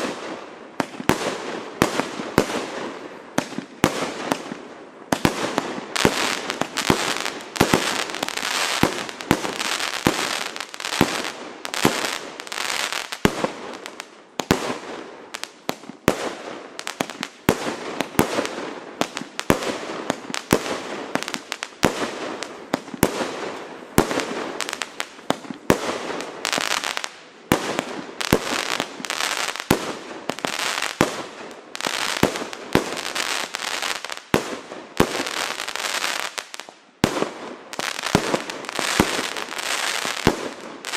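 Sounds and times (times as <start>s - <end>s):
fireworks hiss and crackle: 0.0s - 40.9s
fireworks launch and burst bangs: 0.0s - 40.9s.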